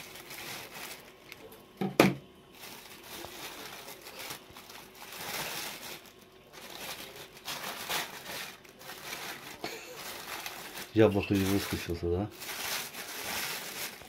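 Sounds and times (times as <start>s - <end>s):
plastic bag crinkling and tearing: 0.0s - 14.0s.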